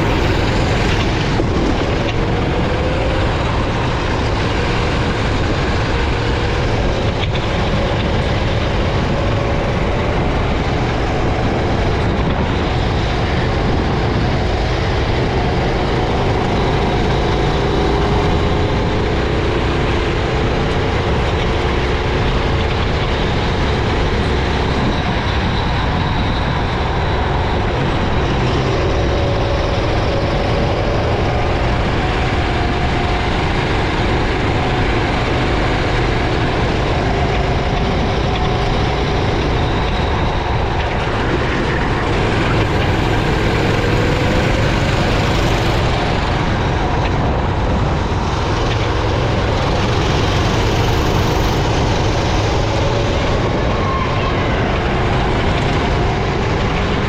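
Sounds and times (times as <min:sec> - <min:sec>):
kart engine running hard: 0:00.0 - 0:57.0
rushing noise: 0:00.0 - 0:57.0.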